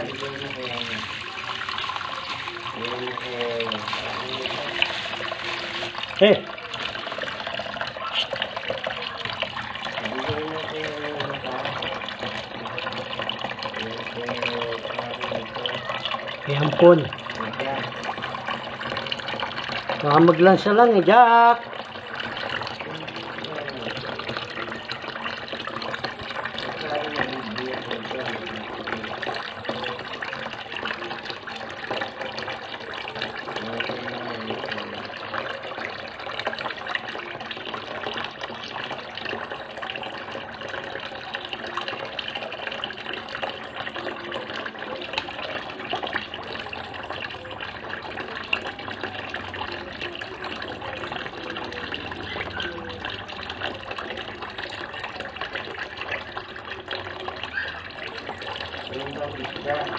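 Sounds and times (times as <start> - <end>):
tap water pouring into basin: 0.0 - 59.9
water splashing and sloshing: 0.0 - 59.9.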